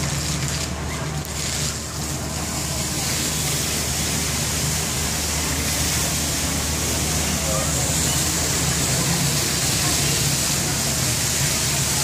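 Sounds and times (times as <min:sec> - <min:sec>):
fountain water spraying: 0:00.0 - 0:12.0.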